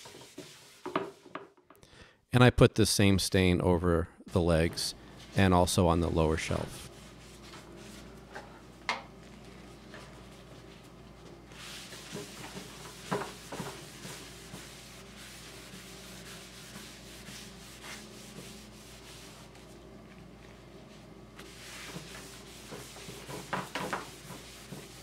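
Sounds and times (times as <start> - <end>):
cloth rag rubbing wood: 0.0 - 1.4, 4.6 - 8.2, 9.5 - 25.0.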